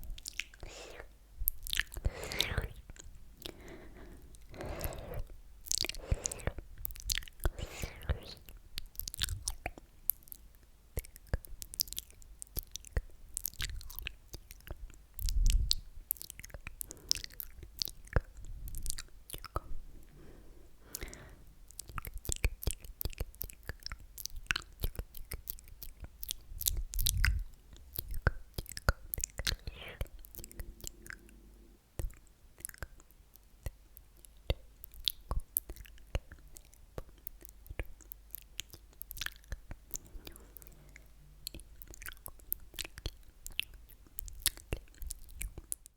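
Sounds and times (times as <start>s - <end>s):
wet lip and tongue clicks: 0.0s - 19.8s, 20.8s - 31.4s, 32.0s - 45.9s.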